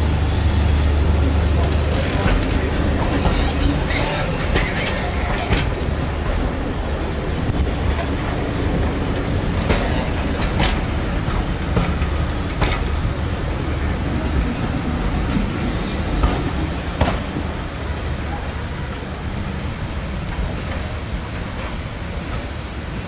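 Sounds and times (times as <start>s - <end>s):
train wheels rumbling on rails: 0.0s - 23.0s
wheels clicking over rail joints: 0.0s - 23.0s.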